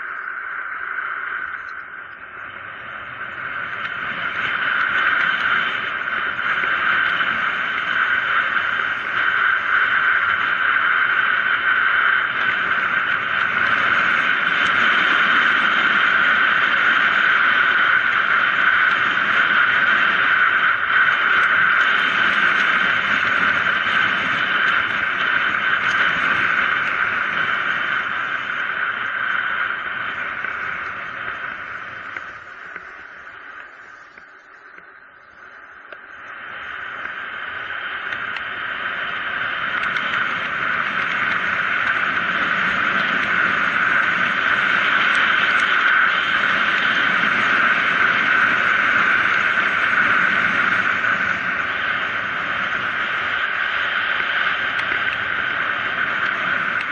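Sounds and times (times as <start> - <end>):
wind rushing on microphone: 0.0 - 56.9.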